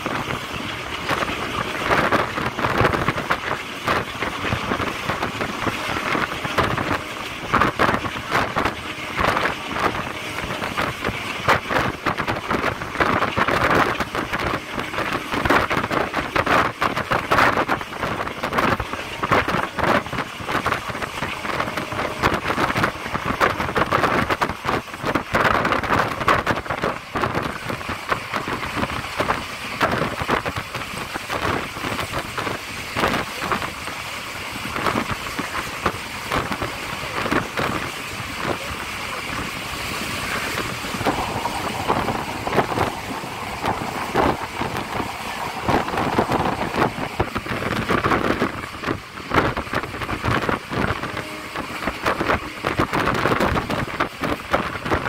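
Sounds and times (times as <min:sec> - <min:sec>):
train wheels rattling: 0:00.0 - 0:55.0
wind noise on microphone: 0:00.0 - 0:55.0.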